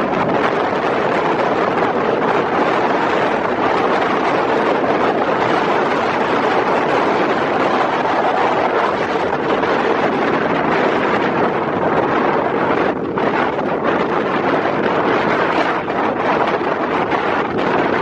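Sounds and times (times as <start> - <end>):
strong wind rushing: 0.0 - 18.0.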